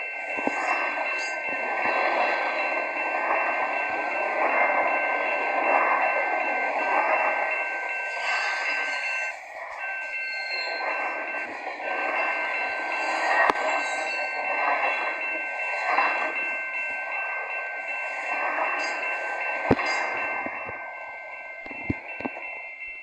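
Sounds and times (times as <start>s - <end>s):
steady high-pitched tones: 0.0s - 23.0s.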